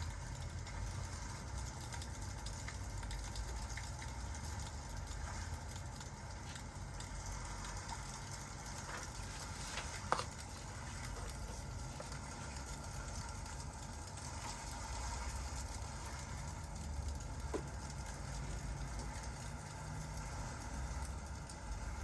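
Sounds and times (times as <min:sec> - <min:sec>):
fireplace crackling: 0:00.0 - 0:22.0
rain: 0:00.0 - 0:22.0.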